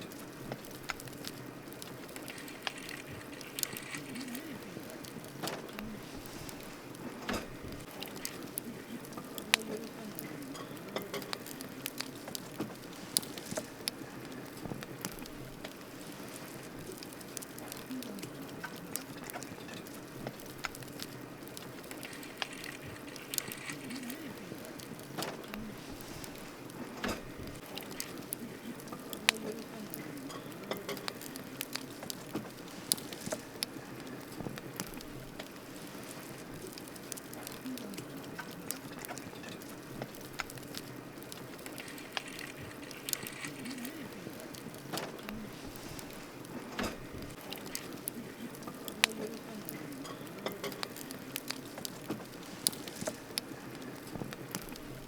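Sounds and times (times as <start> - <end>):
campfire pops and snaps: 0.0 - 55.0
hiss of flames: 0.0 - 55.0.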